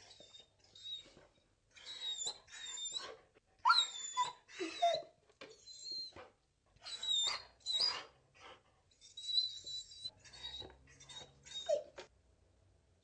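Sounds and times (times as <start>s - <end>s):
dog whining: 0.0s - 1.2s, 1.8s - 12.1s.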